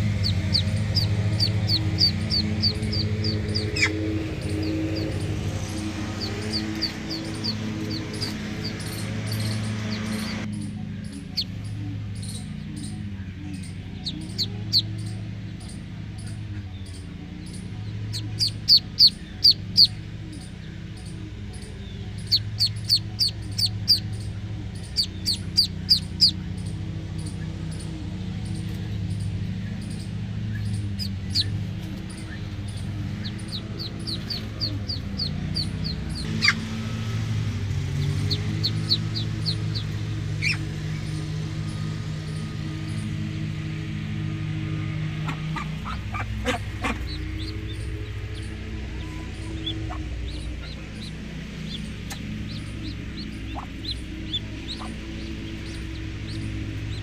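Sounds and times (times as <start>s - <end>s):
light ticking beat: 0.0s - 57.0s
low sustained drone: 0.0s - 57.0s.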